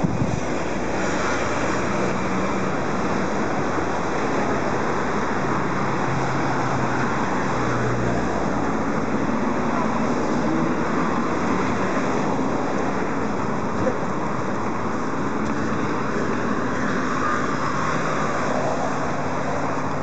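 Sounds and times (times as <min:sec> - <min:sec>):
road traffic roar: 0:00.0 - 0:20.0.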